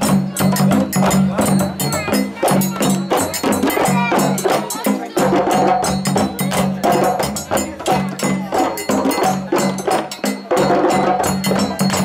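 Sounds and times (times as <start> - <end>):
djembes drumming: 0.0 - 12.0.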